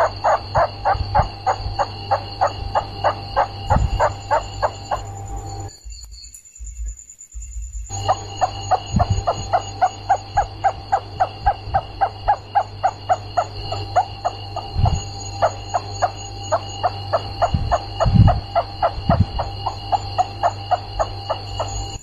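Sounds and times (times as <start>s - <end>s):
rats squeaking: 0.0s - 5.7s, 7.9s - 22.0s
steady electrical hum: 0.0s - 22.0s.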